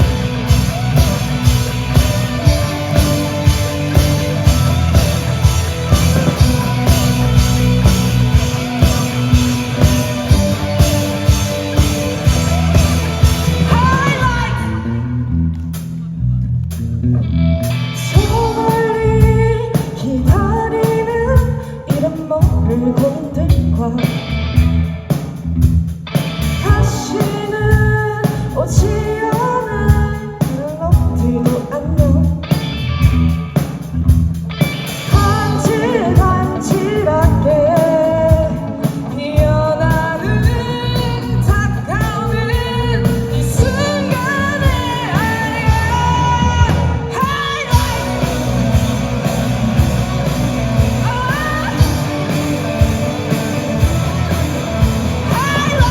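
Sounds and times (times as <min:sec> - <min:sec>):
lead singer vocals: 0:00.0 - 0:15.2, 0:18.0 - 0:24.3, 0:26.6 - 0:32.5, 0:35.1 - 0:49.4, 0:50.7 - 0:54.3, 0:55.1 - 0:55.9
live rock band playing: 0:00.0 - 0:16.1, 0:17.4 - 0:55.9.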